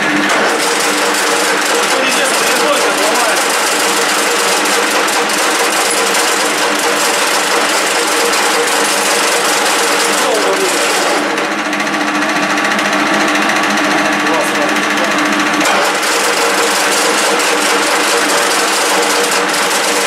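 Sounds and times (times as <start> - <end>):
lathe gears whining: 0.0 - 20.0.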